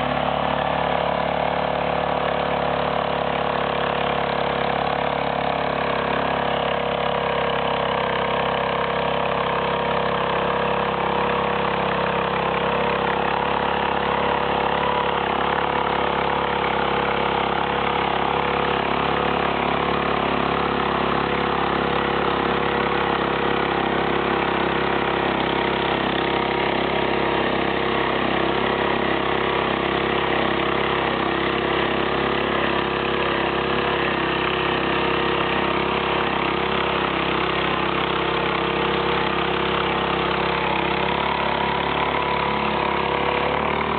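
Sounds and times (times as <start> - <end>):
farm machine engine running: 0.0 - 43.9.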